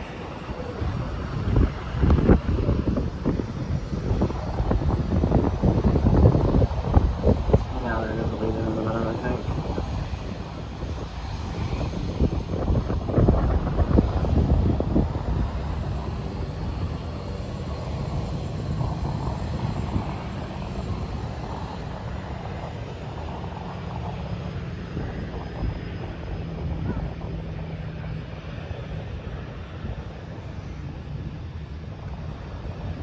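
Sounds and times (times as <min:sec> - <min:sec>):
distant airplane engines droning: 0:00.0 - 0:33.0
wind buffeting microphone: 0:00.0 - 0:33.0.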